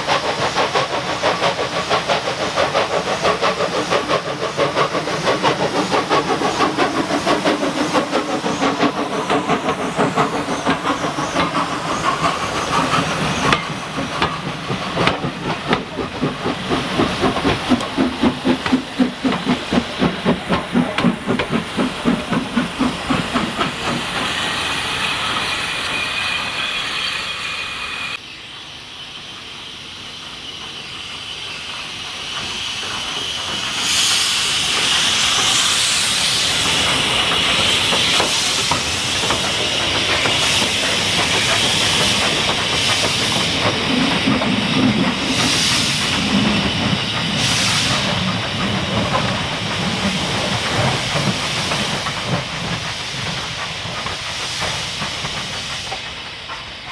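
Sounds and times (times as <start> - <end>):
steam locomotive exhaust beating: 0.0 - 28.2, 29.4 - 56.9
steam hissing: 0.0 - 56.9.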